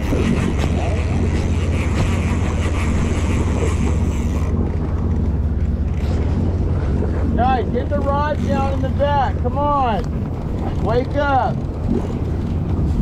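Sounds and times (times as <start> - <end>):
boat engine humming: 0.0 - 13.0
water rushing: 0.0 - 13.0.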